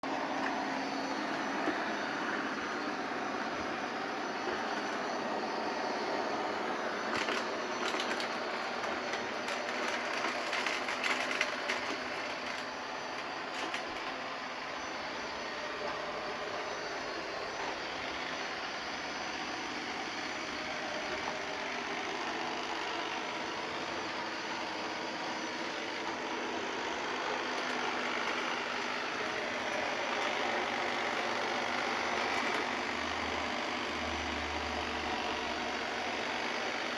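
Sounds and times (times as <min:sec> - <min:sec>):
robot vacuum cleaner whirring: 0:00.0 - 0:36.9.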